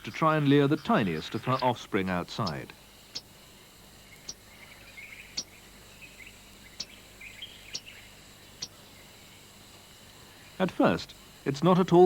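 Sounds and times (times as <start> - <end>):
soft chittering: 0.0 - 12.0.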